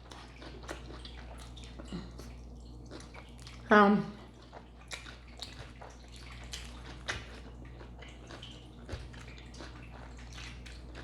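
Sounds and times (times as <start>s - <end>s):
person chewing salad: 0.0s - 11.0s.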